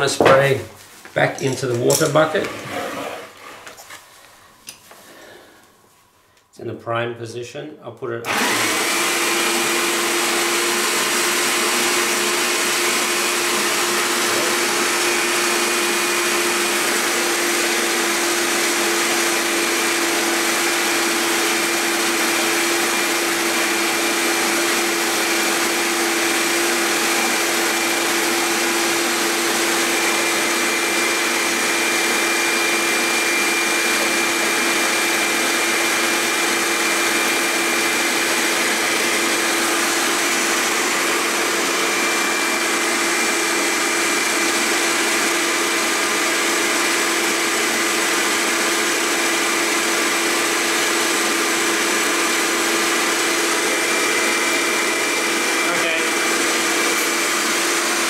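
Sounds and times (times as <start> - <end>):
paint sprayer pump motor humming: 8.3 - 58.0.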